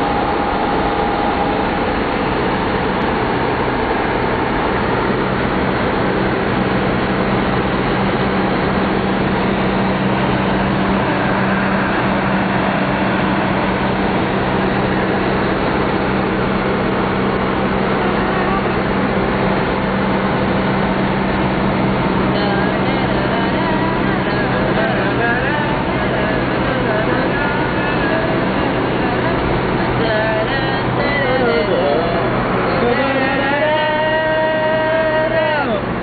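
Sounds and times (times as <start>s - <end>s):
car engine humming: 0.0s - 36.0s
road rumble: 0.0s - 36.0s.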